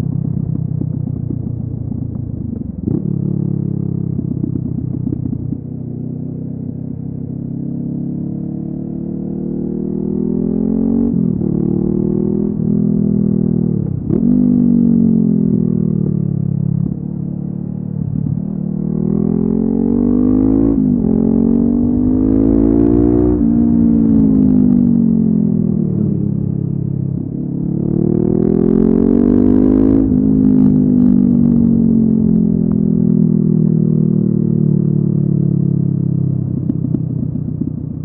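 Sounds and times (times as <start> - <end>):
motorcycle engine revving: 2.0 - 38.0.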